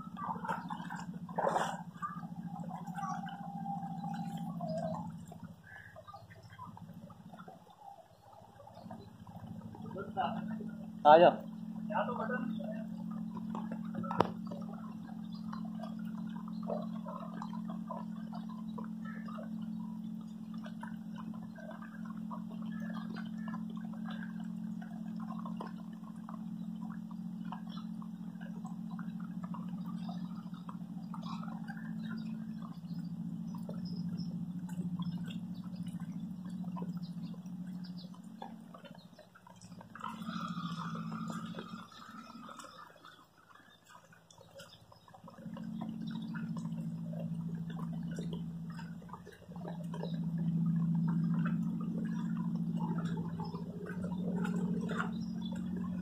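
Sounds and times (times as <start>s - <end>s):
floodwater splashing and dripping: 0.0s - 56.0s
steady low hum: 0.0s - 56.0s
wading footsteps: 0.0s - 56.0s.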